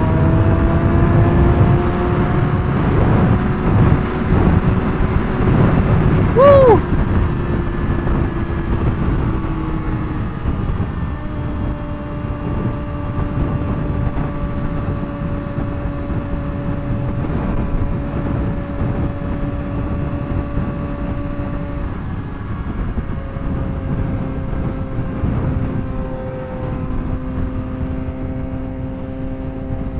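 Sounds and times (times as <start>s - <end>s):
motorcycle engine cruising: 0.0s - 29.9s
wind rush on microphone: 0.0s - 29.9s.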